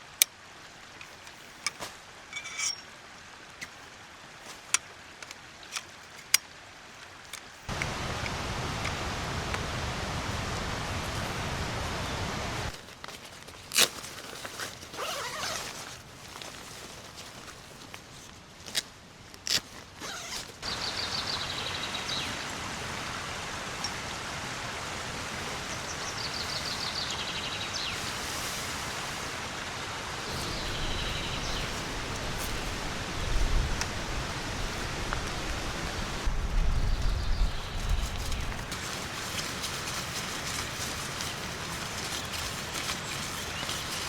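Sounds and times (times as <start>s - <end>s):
rushing water: 0.0s - 12.8s, 20.1s - 44.0s.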